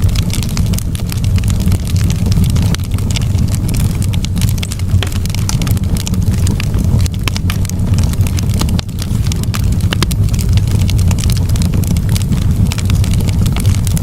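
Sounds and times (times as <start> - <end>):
campfire crackling and popping: 0.0 - 14.0
fire low rumble: 0.0 - 14.0.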